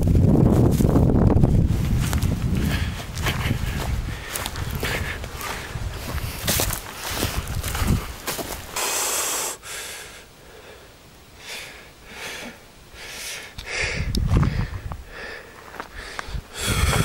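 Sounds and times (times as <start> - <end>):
man breathing: 2.6 - 8.0, 8.7 - 17.0.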